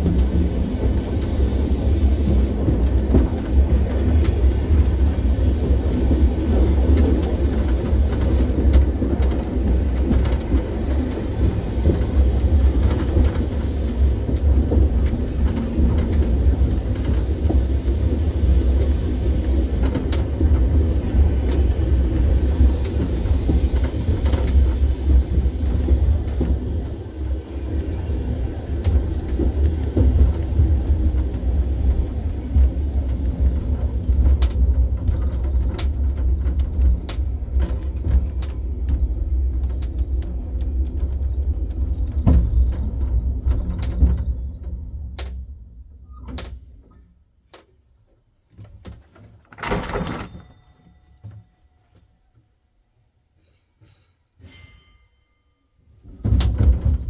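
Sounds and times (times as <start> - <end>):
tram rumbling: 0.0 - 57.0.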